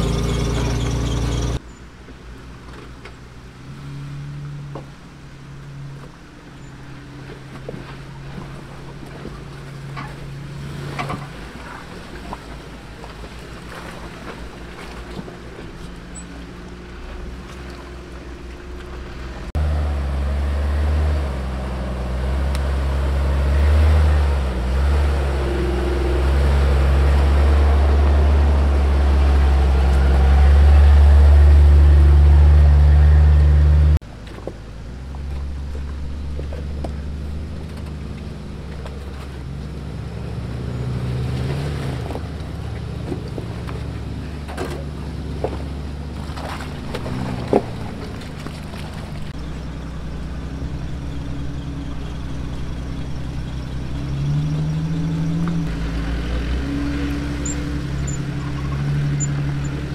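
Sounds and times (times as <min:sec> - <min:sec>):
off-road vehicle engine droning: 0:00.0 - 0:59.9.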